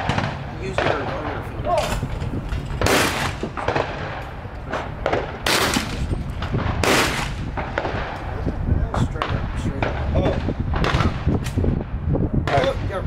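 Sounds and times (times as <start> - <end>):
gunshots with ringing echo: 0.0 - 13.0.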